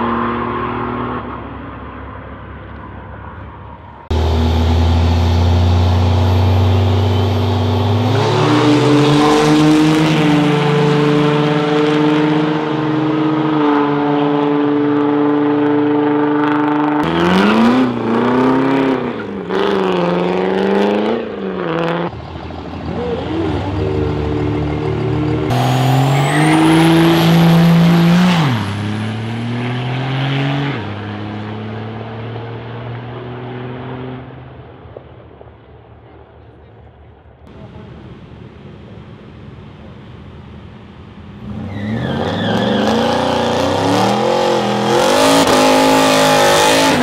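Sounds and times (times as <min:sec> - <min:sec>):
diesel truck engines revving: 0:00.0 - 0:36.4, 0:37.3 - 0:47.0.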